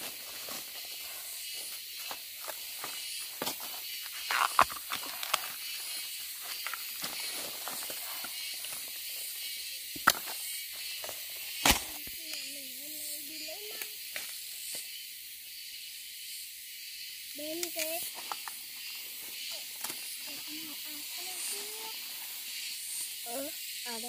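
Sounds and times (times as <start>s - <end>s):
rustling in bamboo undergrowth: 0.0s - 15.0s, 17.4s - 24.0s
high insect hiss: 0.0s - 24.0s.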